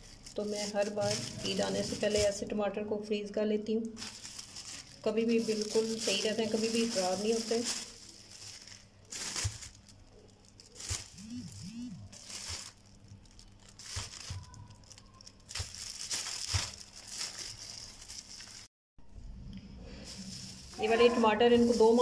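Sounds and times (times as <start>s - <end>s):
plastic bags crinkling and rustling: 0.0s - 2.6s, 3.8s - 18.7s, 20.0s - 22.0s.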